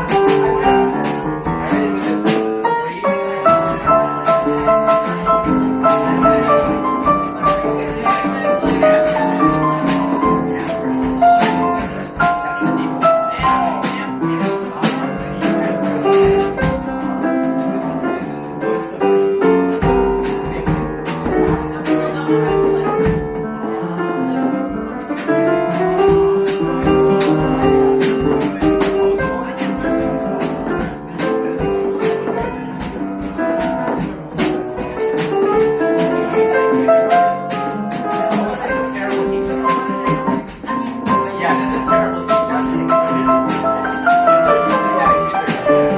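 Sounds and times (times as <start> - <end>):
steady drum beat: 0.0 - 23.6, 24.4 - 45.9
piano chords and melody: 0.0 - 45.9.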